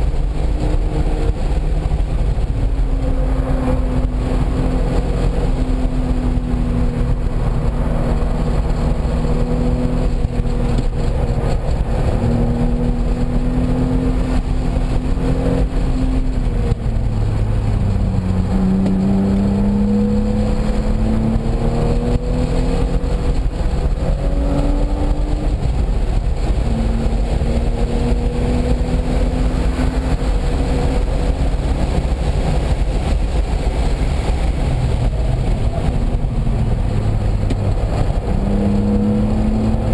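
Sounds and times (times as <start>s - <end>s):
car engine revving through gears: 0.0s - 39.9s
wind and road noise: 0.0s - 39.9s.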